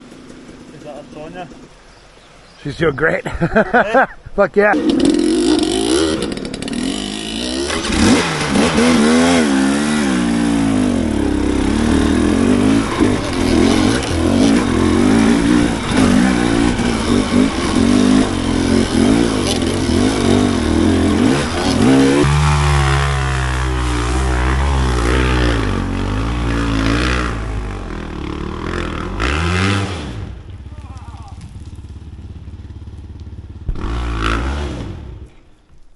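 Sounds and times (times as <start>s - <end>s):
dirt bike engine revving: 4.7s - 35.3s.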